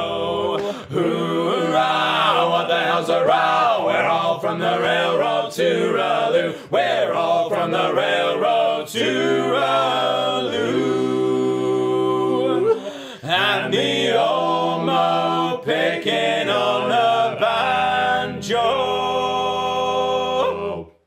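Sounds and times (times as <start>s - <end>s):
male vocal group singing: 0.0s - 21.0s.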